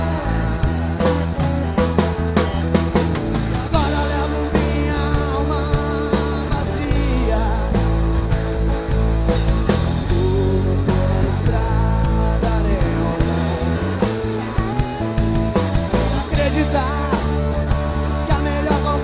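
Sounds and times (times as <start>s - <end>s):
guitar notes bending in pitch: 0.0s - 19.0s
live rock band playing: 0.0s - 19.0s.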